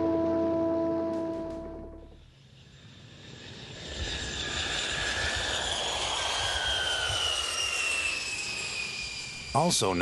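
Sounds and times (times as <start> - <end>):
high engine whine: 0.0 - 10.0
jet engines rushing: 1.0 - 10.0.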